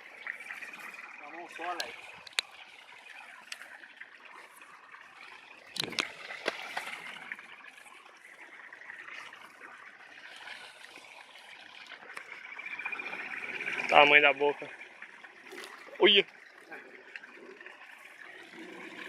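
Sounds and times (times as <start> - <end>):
splashing and clicks: 0.0 - 19.0
water trickling: 0.0 - 19.0.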